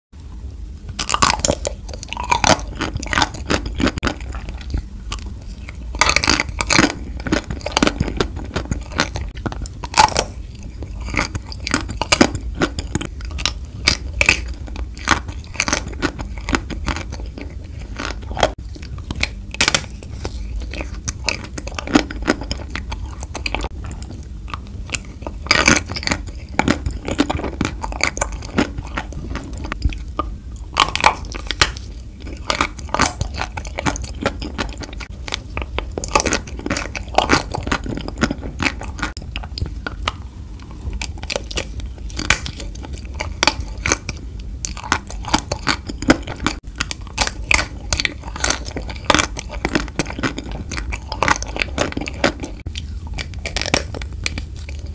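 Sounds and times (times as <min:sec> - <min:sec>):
crunchy chewing and biting: 0:00.7 - 0:54.9.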